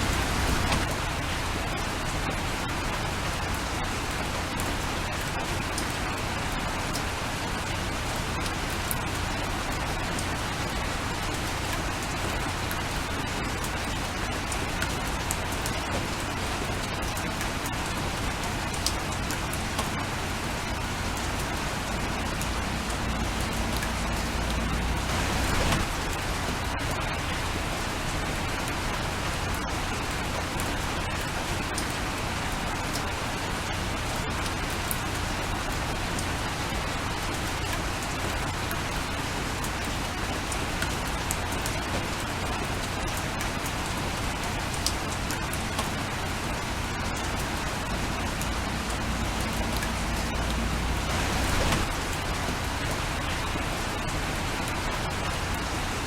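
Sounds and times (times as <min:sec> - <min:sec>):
raindrop ticks: 0:00.0 - 0:07.8, 0:08.4 - 0:55.6
steady rain falling: 0:00.0 - 0:56.0.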